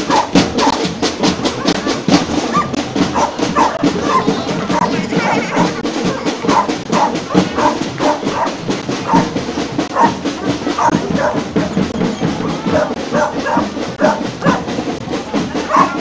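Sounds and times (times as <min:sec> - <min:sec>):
people shouting: 0:00.0 - 0:09.4, 0:10.0 - 0:16.0
parade drumming: 0:00.0 - 0:16.0.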